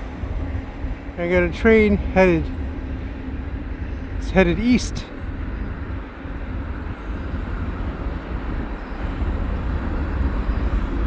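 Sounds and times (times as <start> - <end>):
freight train rumbling on rails: 0.0 - 11.0.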